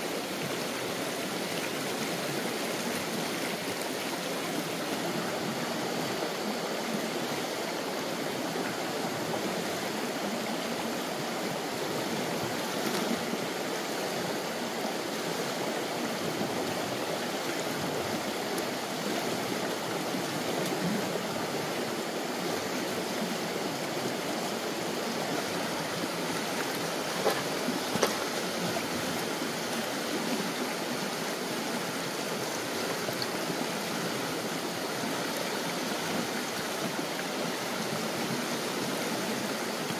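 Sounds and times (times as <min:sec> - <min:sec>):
water rushing in a stream: 0:00.0 - 0:39.9.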